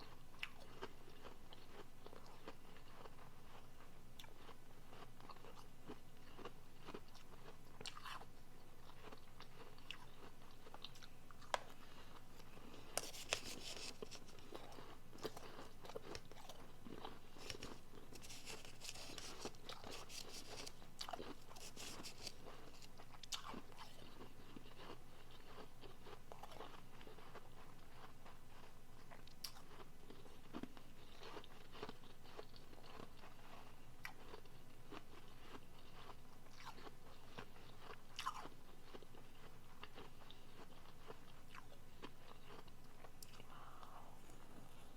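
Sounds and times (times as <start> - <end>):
chewing crunchy ice: 0.0 - 44.9.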